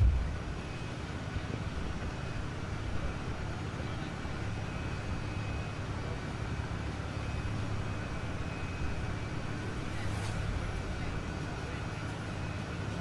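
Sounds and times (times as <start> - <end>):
engine idling low rumble: 0.0 - 13.0.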